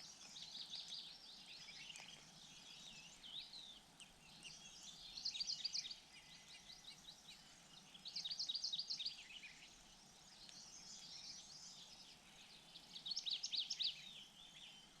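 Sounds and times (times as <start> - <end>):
faint background hiss: 0.0 - 15.0
small birds chirping: 0.0 - 15.0.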